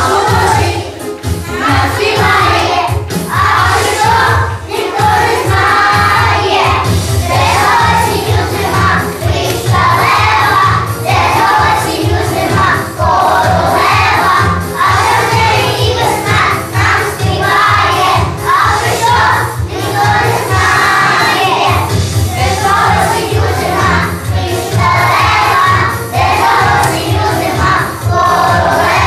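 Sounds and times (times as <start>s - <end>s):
backing track with bass beat: 0.0s - 29.0s
young children singing together: 0.0s - 29.0s.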